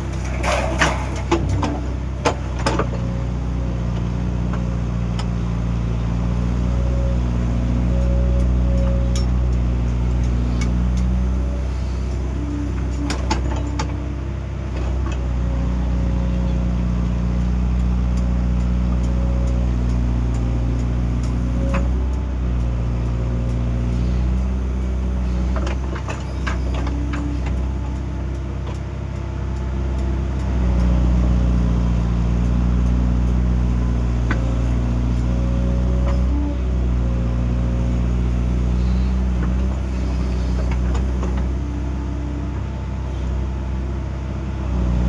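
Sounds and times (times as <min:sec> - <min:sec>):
diesel engine working: 0:00.0 - 0:45.0.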